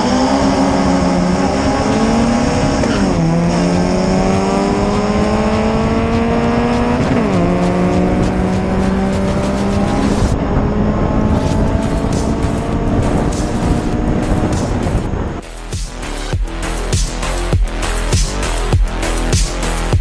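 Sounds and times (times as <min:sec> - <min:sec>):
car engine under full throttle: 0:00.0 - 0:20.0.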